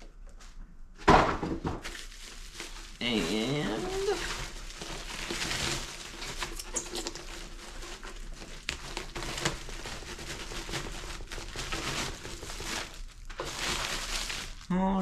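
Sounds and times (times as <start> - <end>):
packaging crinkling and rustling: 1.6 - 14.8.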